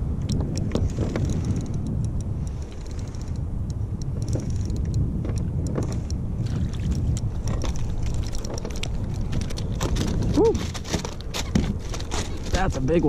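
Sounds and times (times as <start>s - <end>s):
wind rumbling on microphone: 0.0s - 13.0s
clicks and knocks of reeling: 0.3s - 6.2s, 6.8s - 12.8s.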